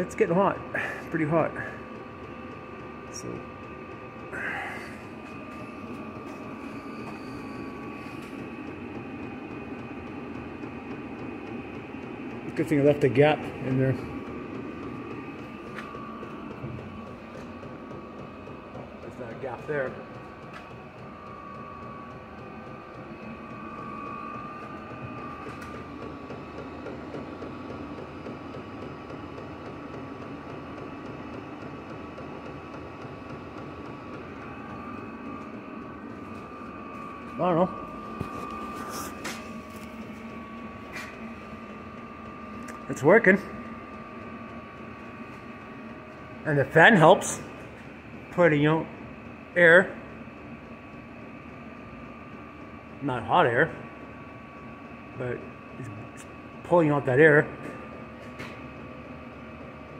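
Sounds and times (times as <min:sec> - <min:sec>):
heater blower fan whirring: 0:00.0 - 0:59.9.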